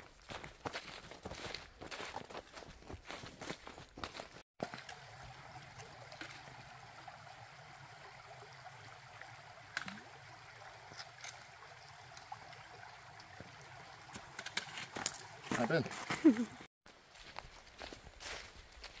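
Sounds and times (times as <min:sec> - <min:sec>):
creek running over rocks: 0:00.2 - 0:19.0.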